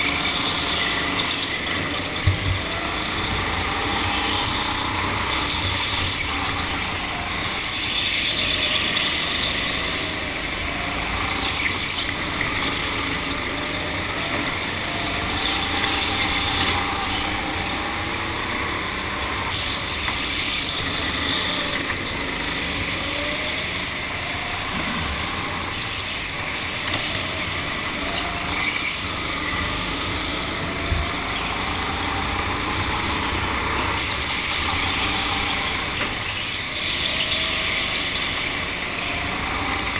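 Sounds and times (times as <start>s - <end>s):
go-kart motor: 0.0s - 39.9s.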